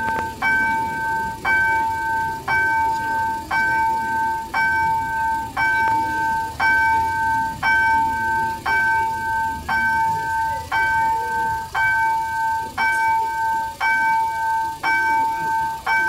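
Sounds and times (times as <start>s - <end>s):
level crossing bell ringing: 0.0s - 16.0s.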